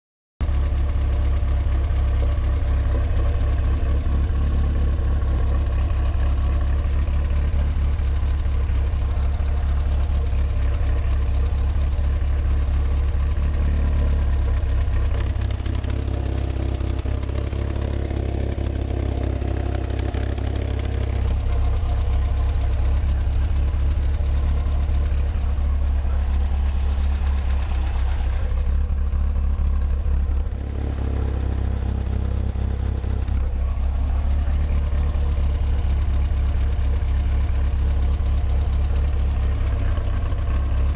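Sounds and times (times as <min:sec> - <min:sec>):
car engine idling: 0:00.4 - 0:40.9
light tapping from engine: 0:00.4 - 0:40.9.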